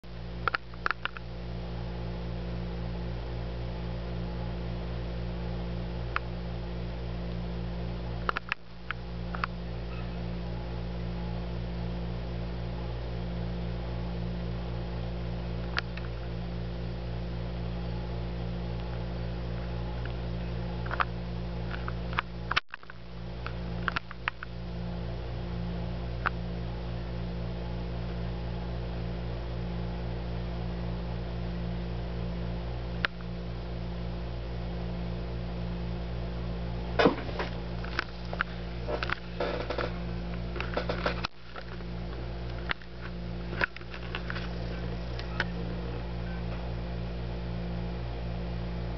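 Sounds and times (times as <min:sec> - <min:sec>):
low electrical hum: 0:00.0 - 0:48.9.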